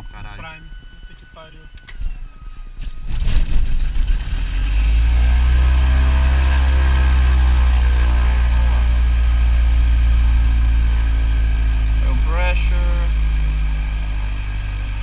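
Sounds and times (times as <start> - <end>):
airplane engine starting and idling: 0.0 - 15.0.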